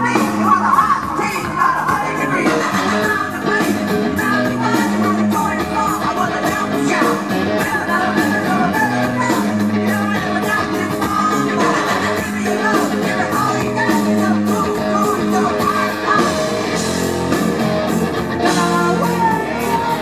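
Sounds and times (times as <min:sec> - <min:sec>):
person singing: 0:00.0 - 0:16.9, 0:18.2 - 0:20.0
electric guitars: 0:00.0 - 0:20.0
steady drum beat: 0:00.0 - 0:20.0.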